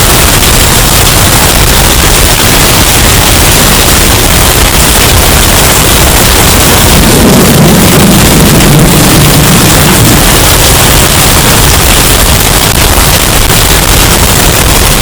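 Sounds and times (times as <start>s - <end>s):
distorted roaring wind: 0.0s - 15.0s.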